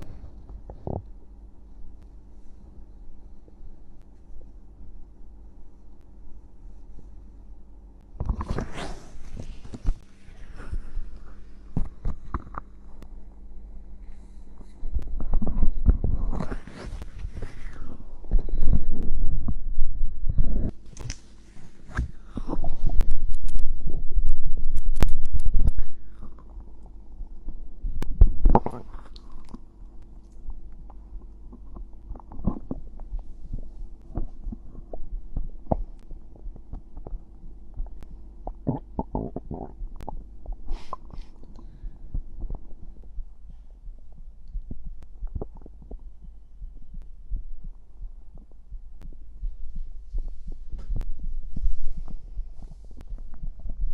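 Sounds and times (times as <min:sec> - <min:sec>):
stomach gurgling and rumbling: 0:00.0 - 0:05.0, 0:08.0 - 0:53.9
steady low hum: 0:00.0 - 0:53.9.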